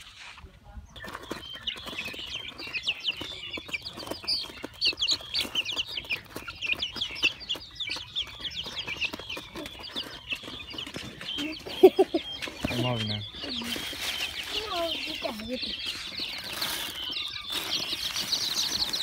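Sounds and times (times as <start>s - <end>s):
chicks cheeping: 0.0s - 19.0s.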